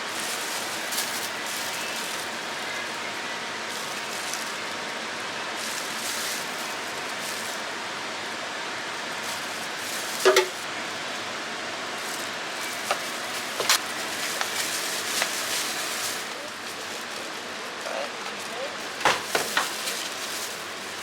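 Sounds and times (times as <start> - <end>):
hiss-like background noise: 0.0 - 21.0.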